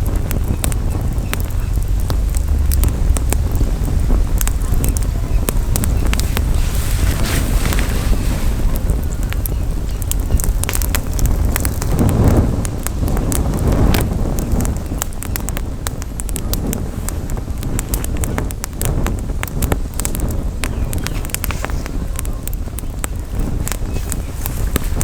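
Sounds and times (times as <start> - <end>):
campfire crackling and popping: 0.0 - 25.0
wind rumble on microphone: 0.0 - 25.0.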